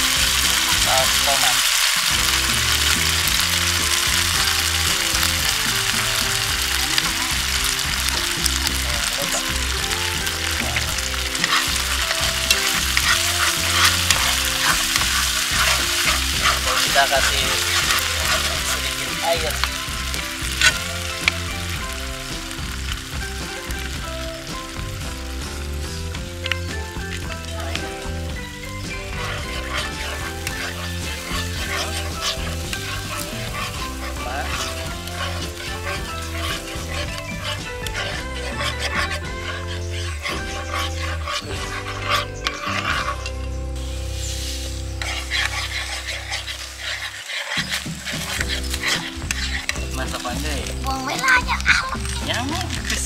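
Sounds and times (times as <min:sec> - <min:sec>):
sauce sizzling in frying pan: 0:00.0 - 0:53.0
spatula scraping pan: 0:00.0 - 0:53.0.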